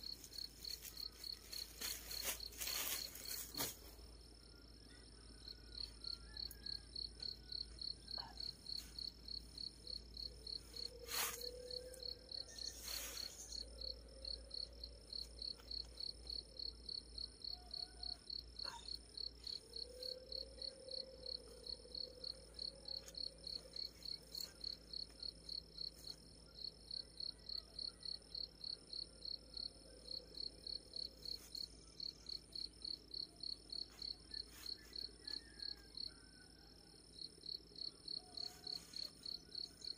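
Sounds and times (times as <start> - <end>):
high insect whine: 0.0 - 39.9
insect chirping: 0.0 - 39.9.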